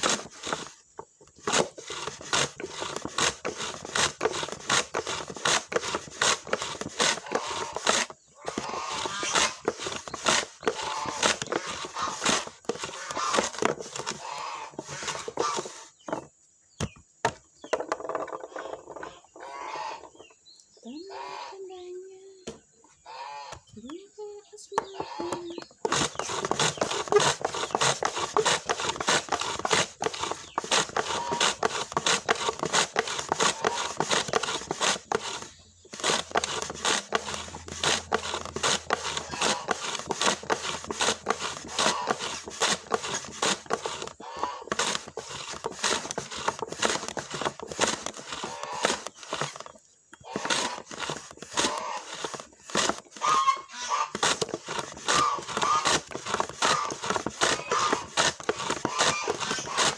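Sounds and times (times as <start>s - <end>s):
shallots scraping across slicer blade: 1.5s - 16.0s, 24.7s - 59.9s.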